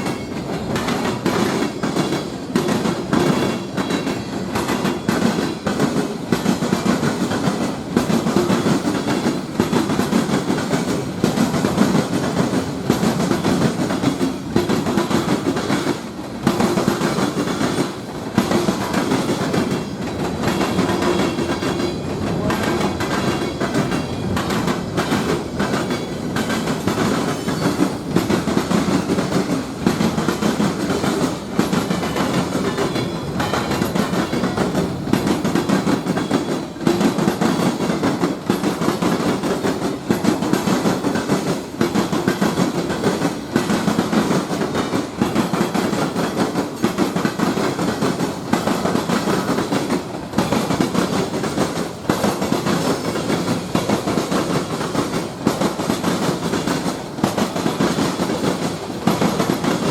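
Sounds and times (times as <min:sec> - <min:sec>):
train rumbling past: 0:00.0 - 0:59.9
wheels clacking on rail joints: 0:00.0 - 0:59.9.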